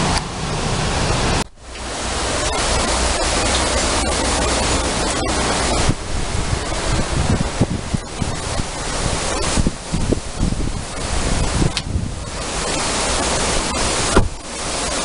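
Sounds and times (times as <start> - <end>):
gusty wind: 0.0 - 15.0
heavy rain pouring: 0.0 - 15.0
wind buffeting microphone: 0.0 - 15.0.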